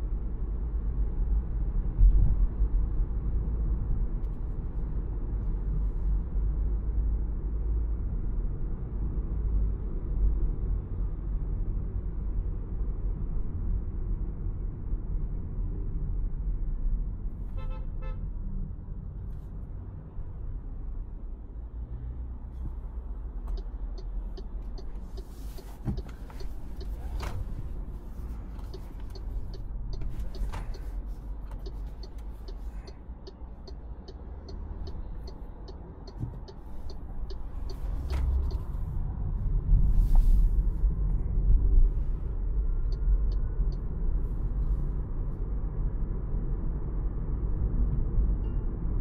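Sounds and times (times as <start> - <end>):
road and drivetrain rumble: 0.0 - 49.0.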